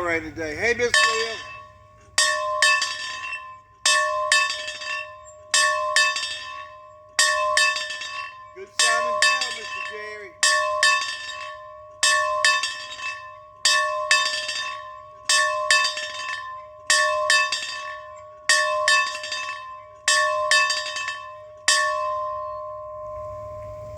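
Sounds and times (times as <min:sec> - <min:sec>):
bell ringing: 0:00.0 - 0:23.9.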